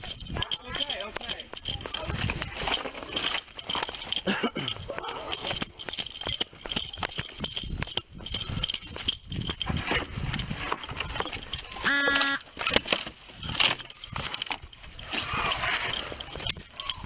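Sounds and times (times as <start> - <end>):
hurried footsteps: 0.0 - 17.0.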